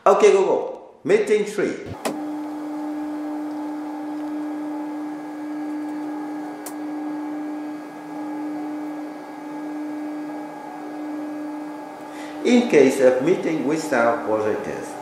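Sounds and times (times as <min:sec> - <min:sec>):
electric motors humming: 0:02.0 - 0:15.0.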